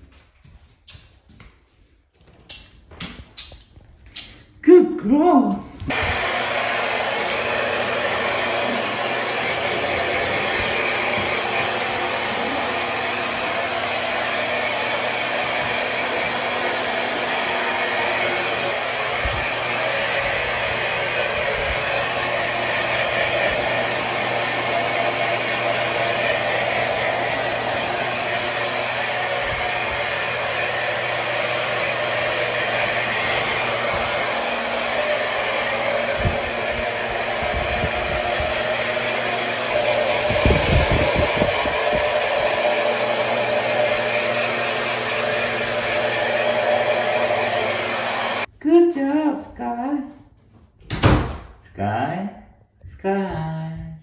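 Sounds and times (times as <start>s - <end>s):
hair dryer blowing: 5.2s - 48.5s.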